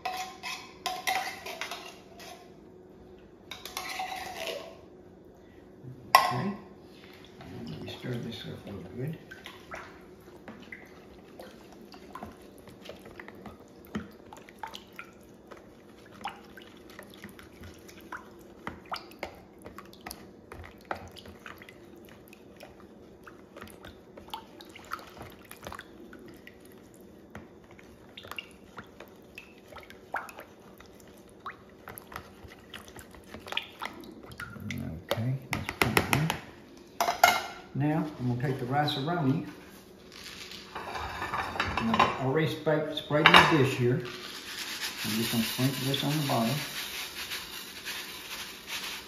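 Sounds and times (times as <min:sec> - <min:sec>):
wet squelches of stirring: 0:00.0 - 0:49.0.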